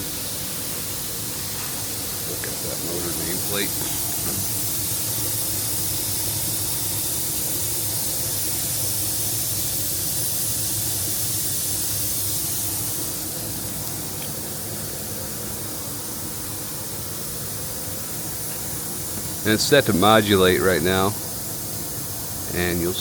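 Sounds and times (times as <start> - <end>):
compressed air hissing: 0.0 - 23.0.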